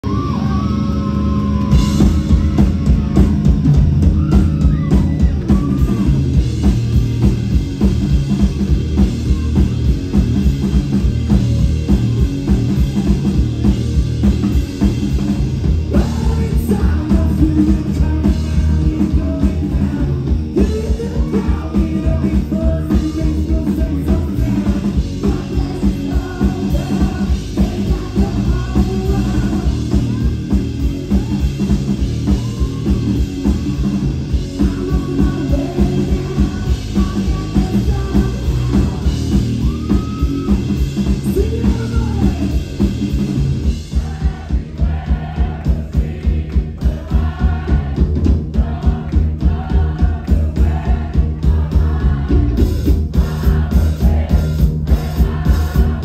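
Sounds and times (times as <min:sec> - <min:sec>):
bass guitar: 0:00.0 - 0:56.0
drum kit beat: 0:01.4 - 0:56.0.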